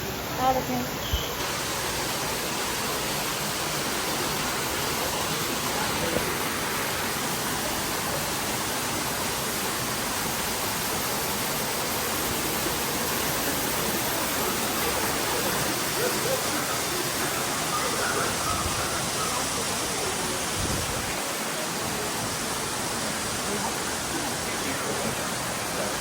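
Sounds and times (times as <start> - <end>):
falling water rushing: 0.0 - 26.0.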